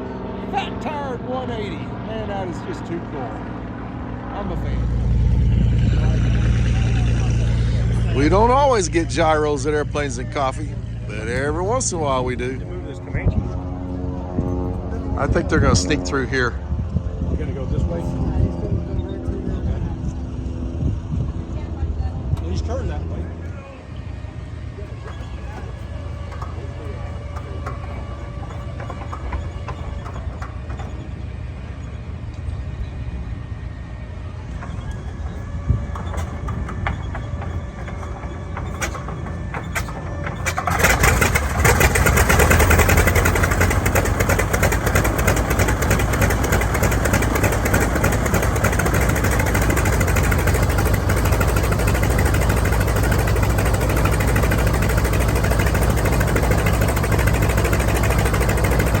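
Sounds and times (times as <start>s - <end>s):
light airplane engine and propeller: 0.0s - 59.0s.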